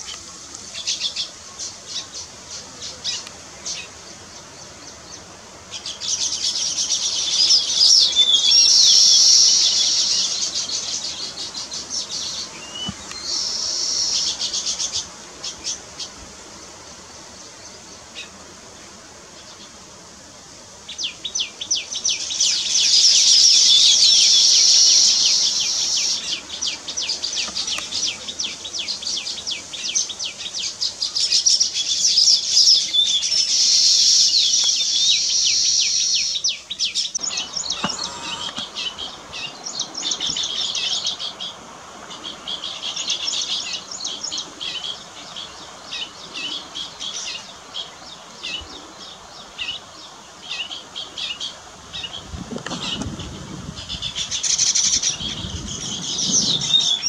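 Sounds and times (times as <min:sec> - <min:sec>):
weaver birds chattering: 0:00.0 - 0:18.4, 0:20.9 - 0:57.0.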